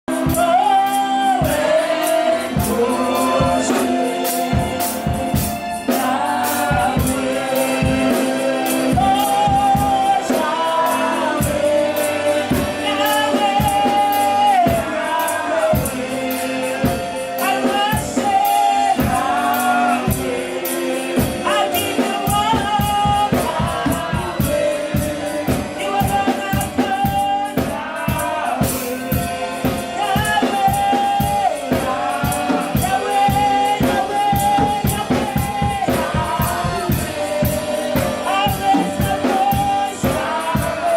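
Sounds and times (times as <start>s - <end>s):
gospel singing over percussion: 0.0s - 40.9s.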